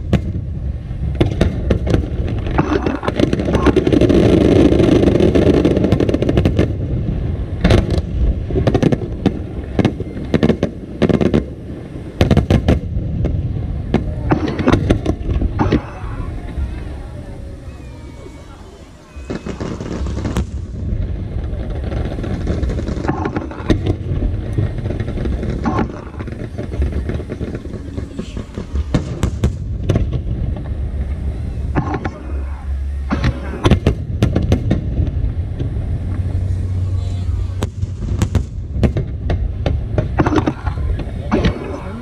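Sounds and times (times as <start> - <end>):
fireworks booming: 0.0 - 42.0
fireworks sharp cracks: 0.0 - 42.0.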